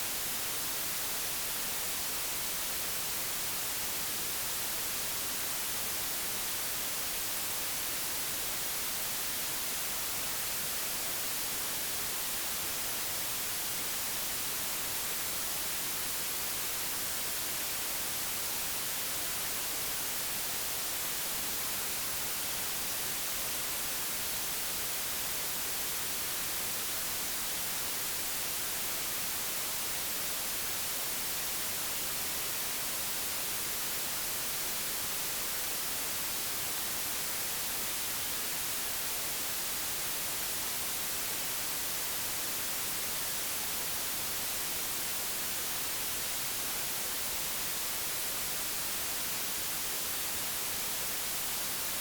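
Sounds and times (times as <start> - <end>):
white noise: 0.0 - 52.0.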